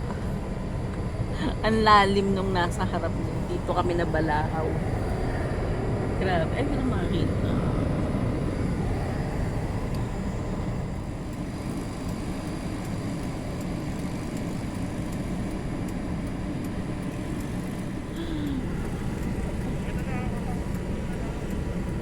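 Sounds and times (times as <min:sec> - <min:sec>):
car engine and cabin rumble: 0:00.0 - 0:22.0.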